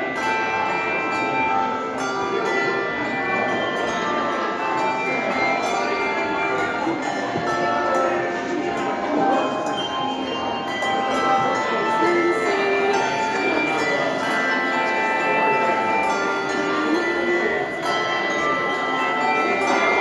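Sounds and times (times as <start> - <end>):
handbell choir playing: 0.0 - 20.0.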